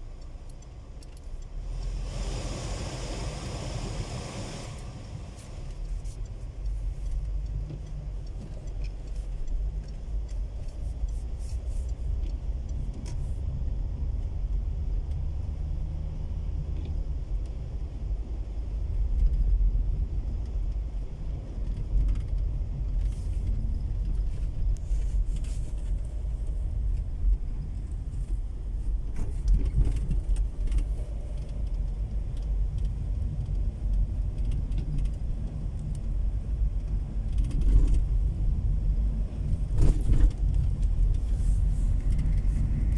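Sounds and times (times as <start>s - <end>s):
car engine and tyres on wet road: 0.0s - 42.9s
faint clicks and rattles: 5.7s - 15.3s, 16.7s - 42.9s.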